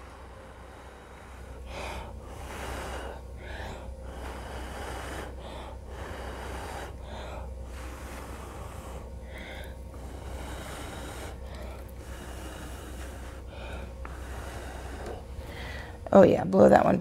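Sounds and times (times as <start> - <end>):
person blowing by mouth: 1.3 - 15.8.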